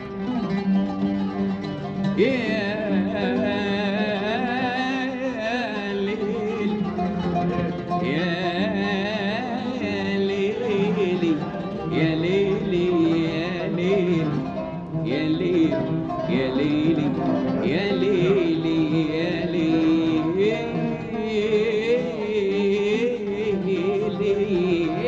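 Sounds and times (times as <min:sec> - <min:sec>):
song with plucked strings: 0:00.0 - 0:25.0.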